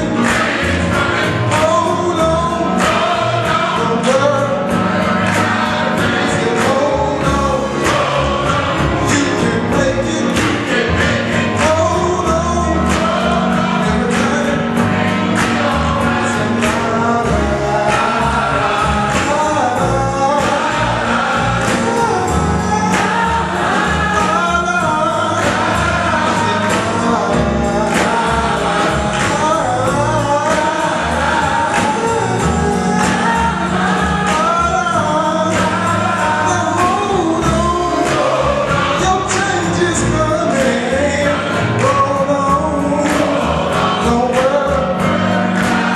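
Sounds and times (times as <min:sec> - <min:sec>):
bass and steady beat accompaniment: 0:00.0 - 0:45.9
gospel choir singing: 0:00.0 - 0:45.9.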